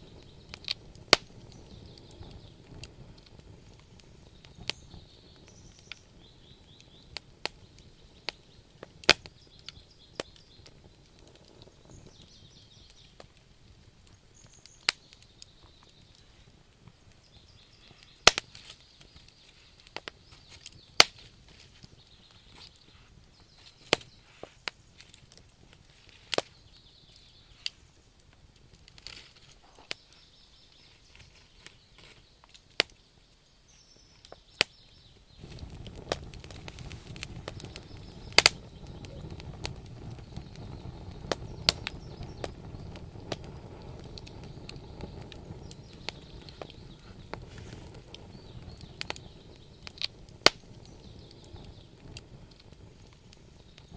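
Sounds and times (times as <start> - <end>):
campfire crackling and popping: 0.0 - 53.9
faint steady background noise: 0.0 - 53.9.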